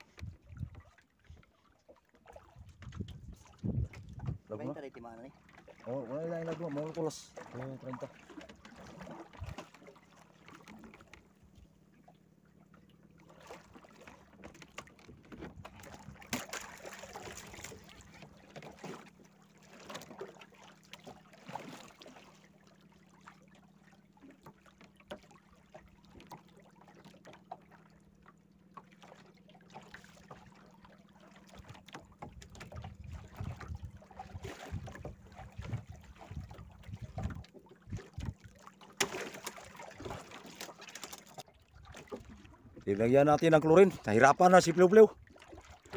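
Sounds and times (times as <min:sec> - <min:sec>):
water slapping against boat hull: 0:00.0 - 0:45.9.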